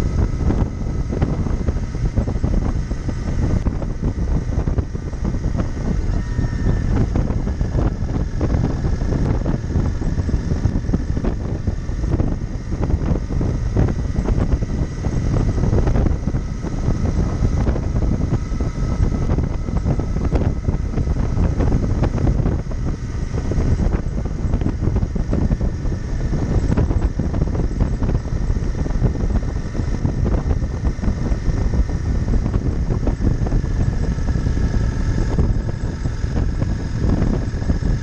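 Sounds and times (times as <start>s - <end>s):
motorcycle engine cruising: 0.0s - 38.0s
wind noise on microphone: 0.0s - 38.0s.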